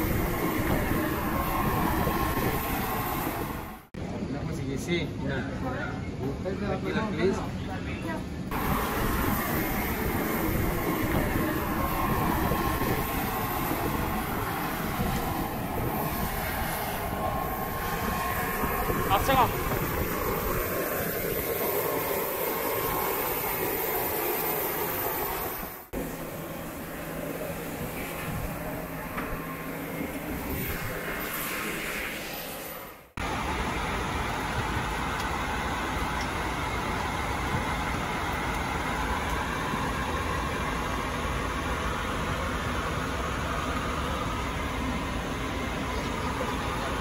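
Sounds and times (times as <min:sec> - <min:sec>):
airliner cabin hum: 0:00.0 - 0:04.0, 0:08.4 - 0:47.0
aircraft rumble and hiss: 0:00.0 - 0:47.0.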